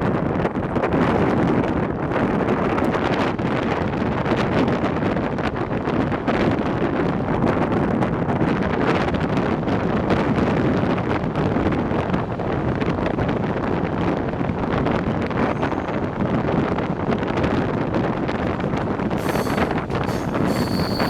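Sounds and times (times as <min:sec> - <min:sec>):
train wheels rumbling on rails: 0:00.0 - 0:21.0
wind buffeting microphone: 0:00.0 - 0:21.0.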